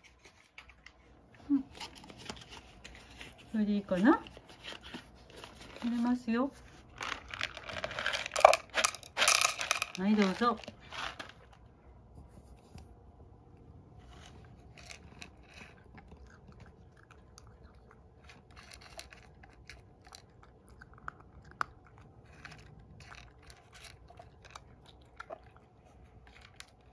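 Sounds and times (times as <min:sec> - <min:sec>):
cat crunching dry treats: 0:00.0 - 0:11.8, 0:14.0 - 0:26.9.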